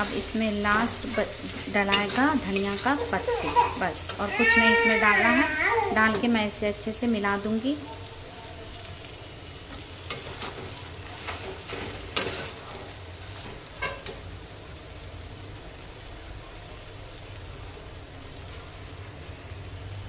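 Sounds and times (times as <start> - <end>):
low steady sizzle: 0.0 - 20.0.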